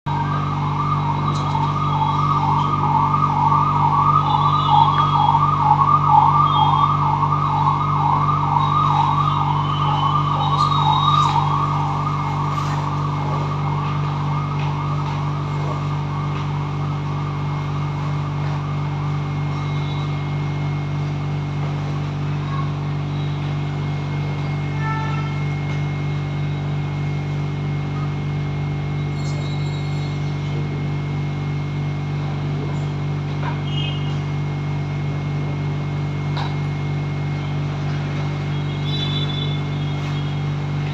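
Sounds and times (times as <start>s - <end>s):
low hum: 0.1s - 40.9s
warbling siren: 0.1s - 40.9s.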